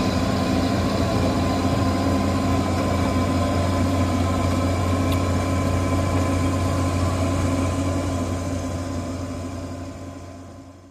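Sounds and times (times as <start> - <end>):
excavator diesel engine humming: 0.0 - 10.9.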